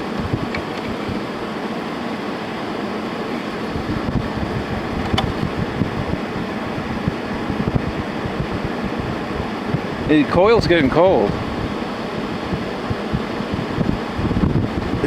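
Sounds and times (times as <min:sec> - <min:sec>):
air conditioner running: 0:00.0 - 0:15.0.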